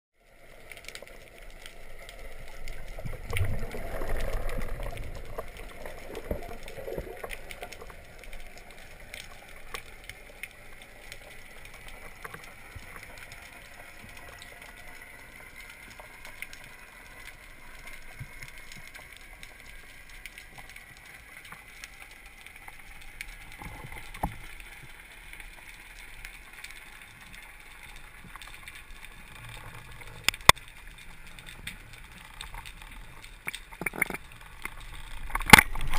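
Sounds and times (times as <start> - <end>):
low steady hiss: 0.2 - 35.9
water rushing and gurgling: 0.2 - 35.9
faint underwater clicks: 0.3 - 35.9.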